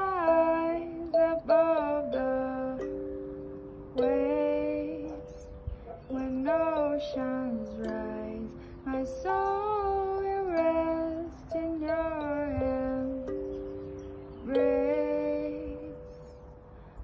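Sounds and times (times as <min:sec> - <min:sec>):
high voice singing: 0:00.0 - 0:16.5
plucked kalimba notes: 0:00.0 - 0:16.8.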